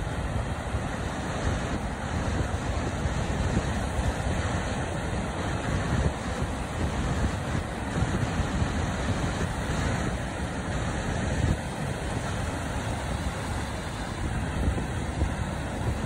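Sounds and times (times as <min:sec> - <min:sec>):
ocean surf washing up beach: 0:00.0 - 0:16.0
wind rumbling on microphone: 0:00.0 - 0:16.0.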